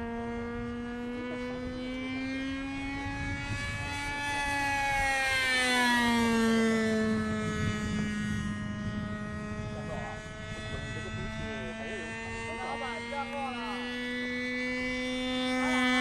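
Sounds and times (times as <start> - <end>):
model plane motor humming: 0.0 - 16.0.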